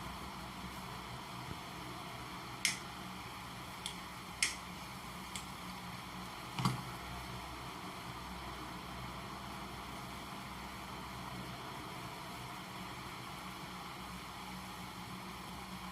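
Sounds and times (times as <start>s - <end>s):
steady background hiss: 0.0s - 15.9s.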